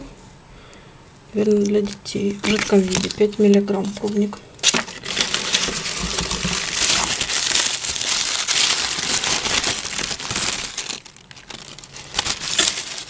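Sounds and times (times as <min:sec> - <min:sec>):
packing paper crinkling and rustling: 0:01.5 - 0:13.0.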